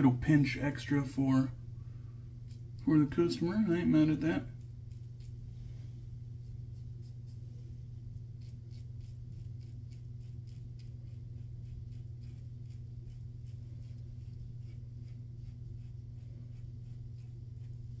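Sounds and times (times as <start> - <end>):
steady low hum: 0.0 - 18.0
razor scraping stubble: 2.4 - 5.6, 6.4 - 18.0.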